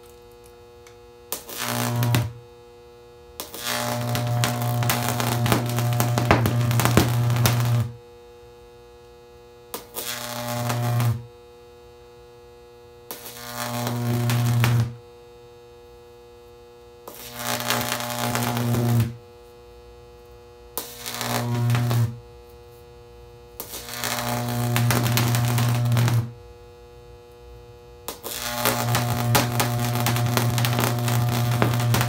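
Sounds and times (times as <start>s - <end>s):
electric arc buzzing and crackling: 0.0s - 8.2s, 9.0s - 15.4s, 17.0s - 32.0s.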